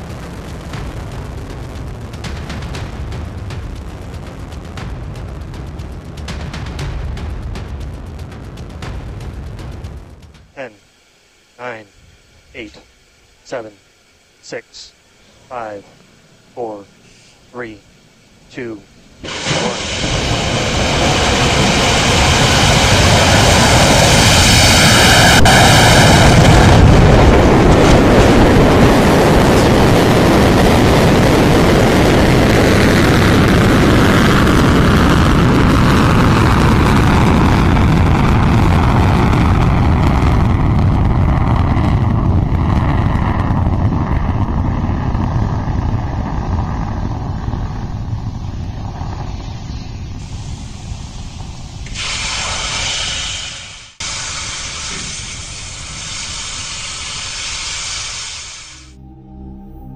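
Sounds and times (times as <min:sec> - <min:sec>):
rocket engine roar: 0:00.0 - 0:59.0.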